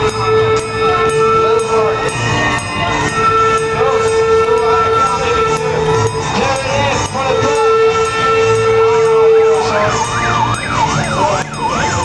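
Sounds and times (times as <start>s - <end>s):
electronic siren yelping: 0.0s - 12.0s.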